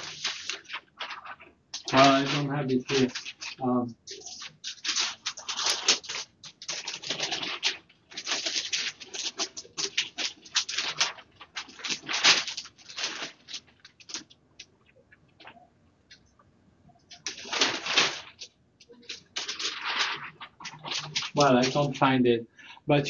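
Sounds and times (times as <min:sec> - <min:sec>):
paper sheets rustling: 0:00.0 - 0:14.4, 0:17.1 - 0:22.1.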